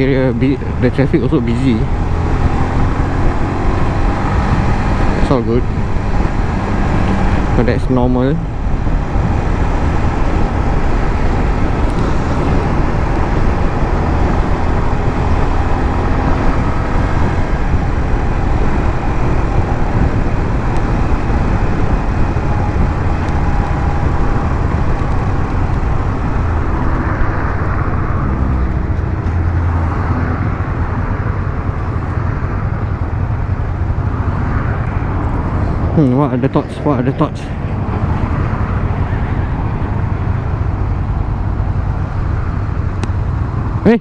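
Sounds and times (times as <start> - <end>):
motorcycle engine running: 0.0 - 44.0
road and wind noise: 0.0 - 44.0.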